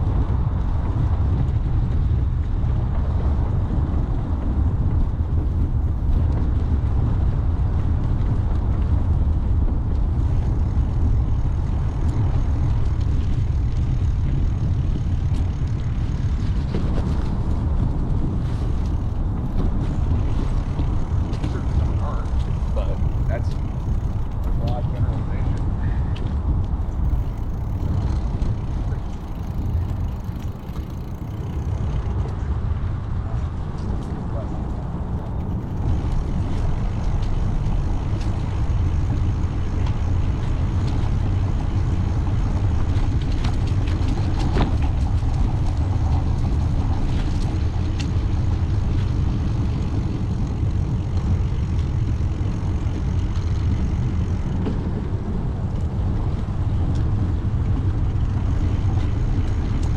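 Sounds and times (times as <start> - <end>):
bicycle road noise: 0.0 - 59.9
wind rumble: 0.0 - 59.9.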